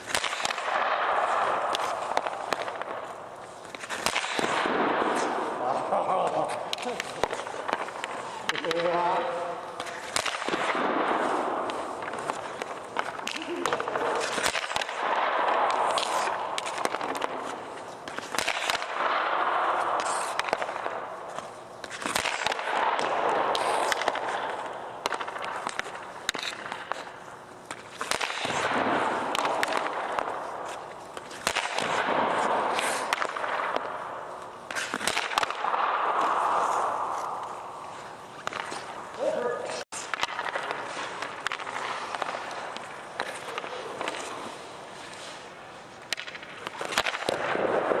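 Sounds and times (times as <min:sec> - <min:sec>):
hockey stick cracking on puck: 0:00.0 - 0:48.0
puck hitting goalie pads: 0:00.0 - 0:48.0
skates scraping on ice: 0:00.0 - 0:48.0.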